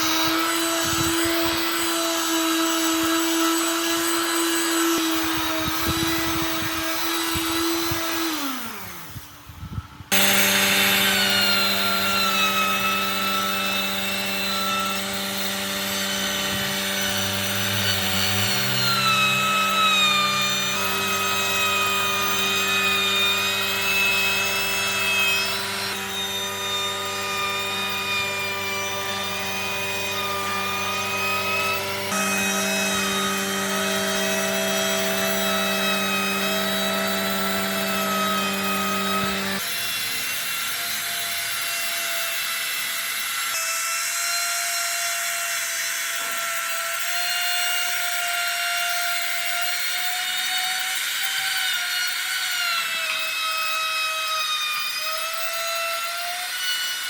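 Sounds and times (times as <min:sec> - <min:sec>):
woodworking machine motor whine: 0:00.0 - 0:57.0.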